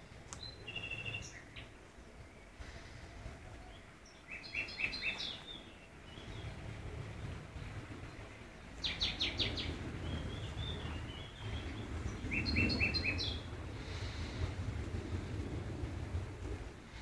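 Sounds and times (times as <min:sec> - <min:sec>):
small birds singing: 0:00.0 - 0:15.6
low steady rumble: 0:00.0 - 0:17.0.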